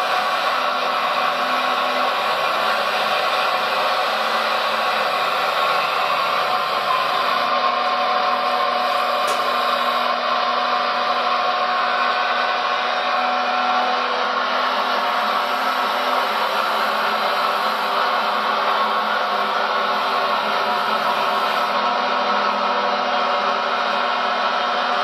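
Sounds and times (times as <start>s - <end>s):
hydraulic pump whirring whine: 0.0s - 25.0s.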